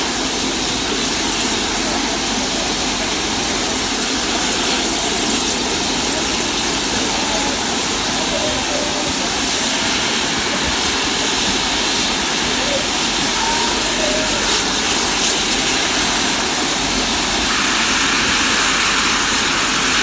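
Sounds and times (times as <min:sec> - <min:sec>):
steam roaring hiss: 0:00.0 - 0:20.0.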